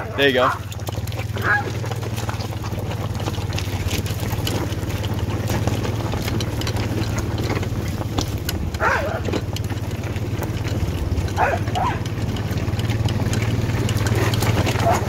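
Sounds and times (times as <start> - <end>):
engine running at low revs: 0.0 - 15.0
gravel crunching under wheels: 0.0 - 15.0.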